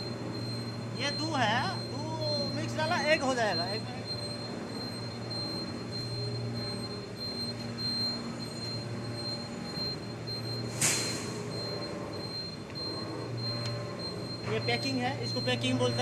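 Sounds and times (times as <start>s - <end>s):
moulding press machinery hum: 0.0s - 16.0s.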